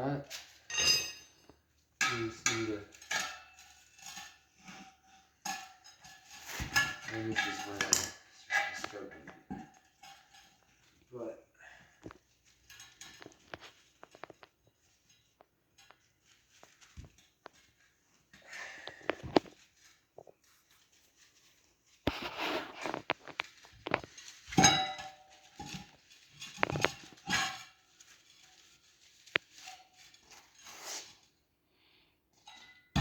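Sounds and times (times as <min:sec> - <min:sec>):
metal clinks and scraping: 0:00.2 - 0:31.3, 0:32.4 - 0:33.0.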